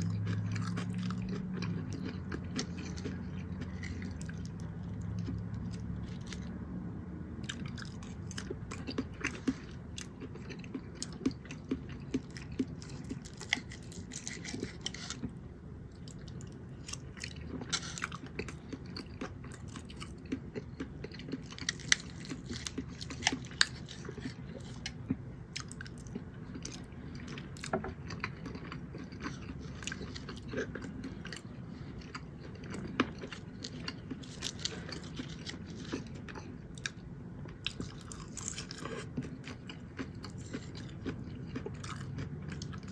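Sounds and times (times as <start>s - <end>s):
person chewing food: 0.0s - 6.7s, 7.4s - 42.9s.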